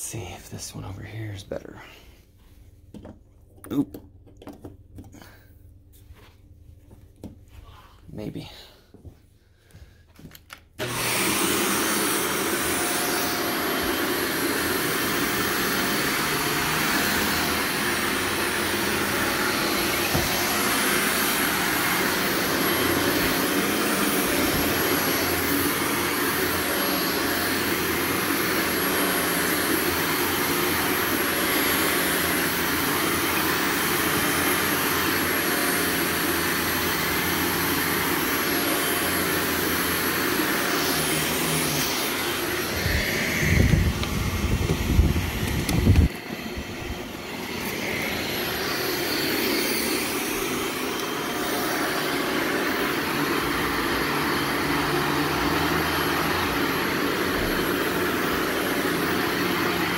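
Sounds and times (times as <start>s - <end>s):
vacuum cleaner running: 0.2s - 59.9s.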